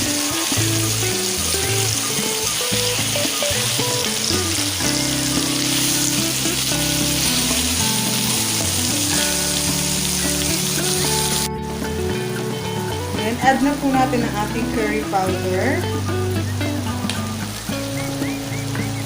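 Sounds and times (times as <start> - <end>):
background music with low notes: 0.0 - 19.0
chicken sizzling in hot oil: 0.0 - 19.0.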